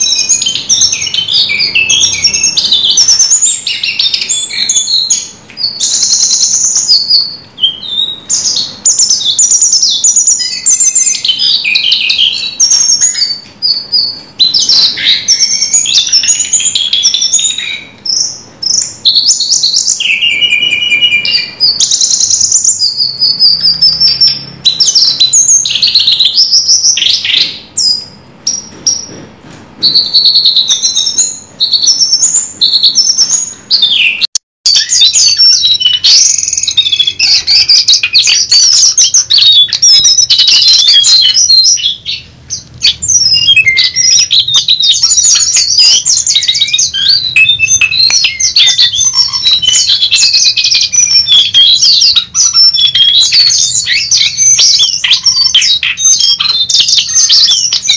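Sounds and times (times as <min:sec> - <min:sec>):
songbird chirping and trilling: 0:00.0 - 0:57.9.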